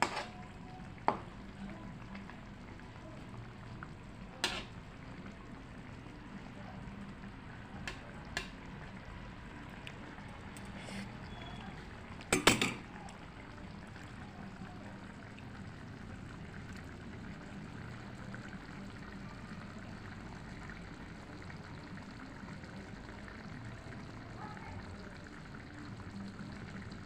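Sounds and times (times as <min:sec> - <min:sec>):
food simmering in a pan: 0:00.0 - 0:27.0.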